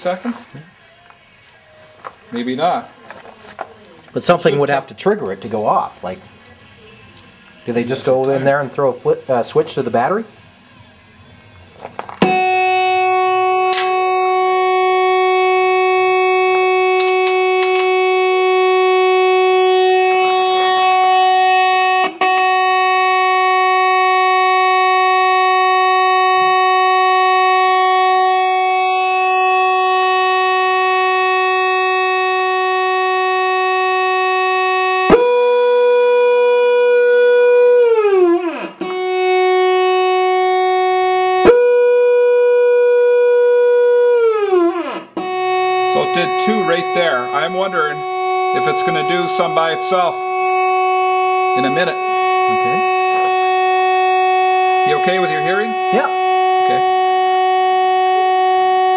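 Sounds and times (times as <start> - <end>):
electronic fog horn tone: 4.3 - 58.9.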